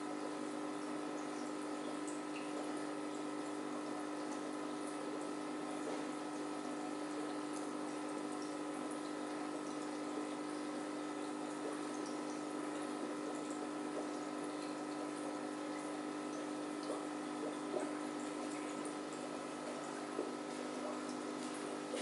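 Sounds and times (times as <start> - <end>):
aquarium filter pump humming: 0.0 - 22.0
bubbling water: 0.0 - 22.0.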